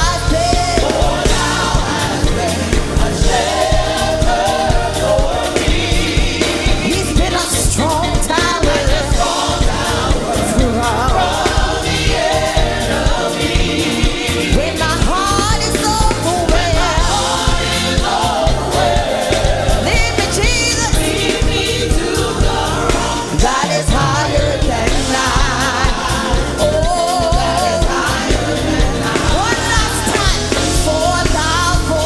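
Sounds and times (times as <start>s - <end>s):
backing singers: 0.0s - 32.0s
bass and drums beat: 0.0s - 32.0s
lead singer with vibrato: 0.0s - 32.0s.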